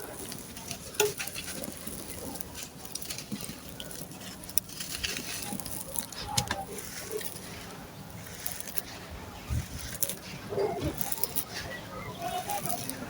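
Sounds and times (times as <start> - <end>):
sand-cement chunks crumbling: 0.0 - 13.0.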